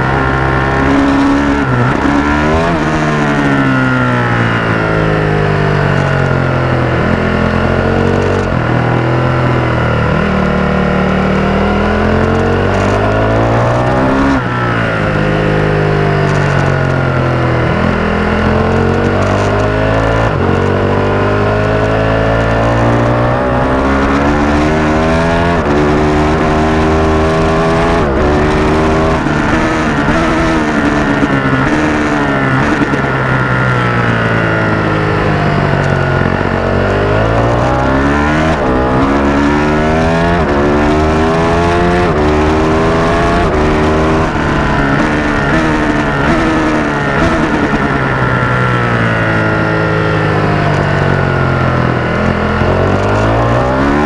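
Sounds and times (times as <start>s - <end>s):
motorcycle engine revving through gears: 0.0s - 54.0s.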